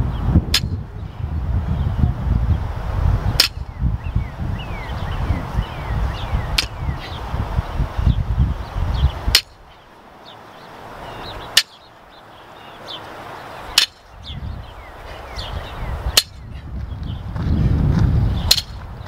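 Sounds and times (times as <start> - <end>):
wind rumbling on microphone: 0.0 - 19.0
small birds chirping: 3.3 - 19.0.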